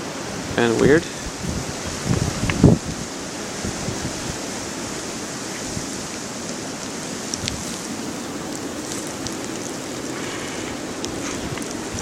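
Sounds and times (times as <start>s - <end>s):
blizzard wind and blowing snow: 0.0s - 12.0s.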